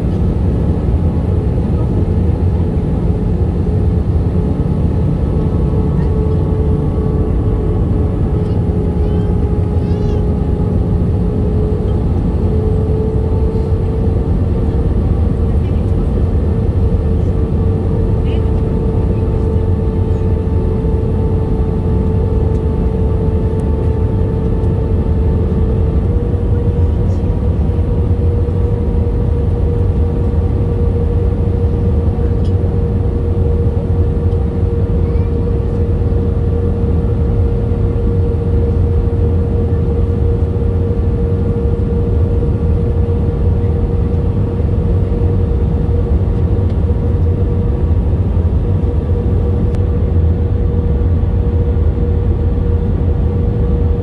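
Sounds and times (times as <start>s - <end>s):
engine hum: 0.0s - 54.0s
jet engines rumbling: 0.0s - 54.0s.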